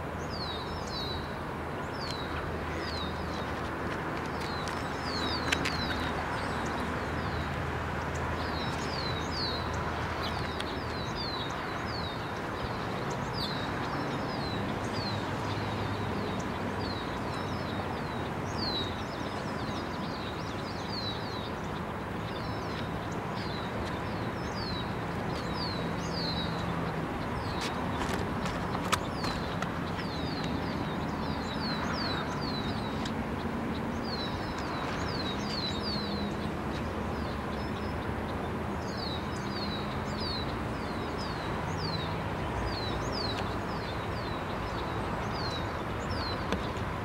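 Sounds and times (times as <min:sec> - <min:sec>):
songbird chirping: 0:00.2 - 0:47.0.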